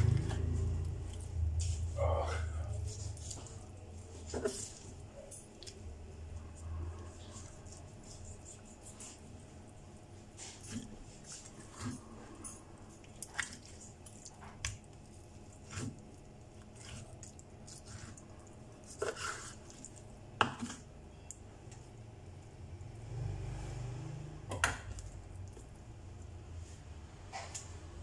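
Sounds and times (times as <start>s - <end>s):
wet squishes of meat: 0.0s - 26.5s.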